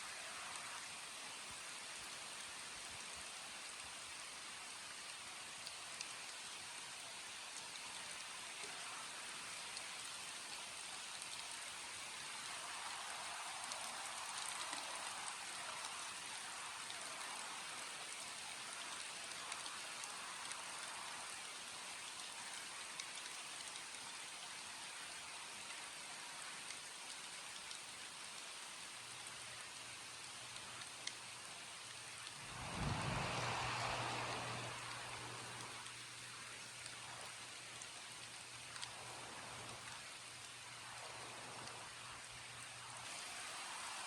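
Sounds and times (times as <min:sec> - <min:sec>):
steady rain hissing: 0:00.0 - 0:44.0
rain drop ticks: 0:04.9 - 0:44.0.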